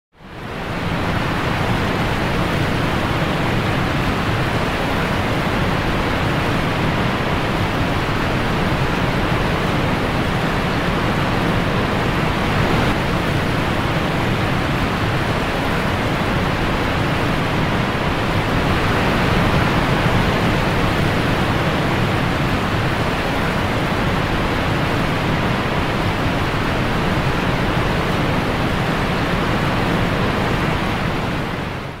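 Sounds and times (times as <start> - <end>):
waterfall rushing: 0.3 - 32.0.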